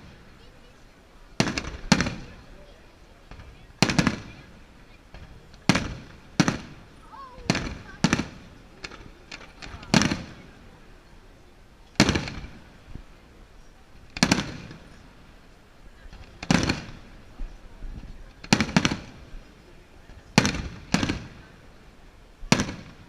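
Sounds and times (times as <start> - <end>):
fireworks bursting with echo: 0.0 - 11.3, 11.9 - 23.0.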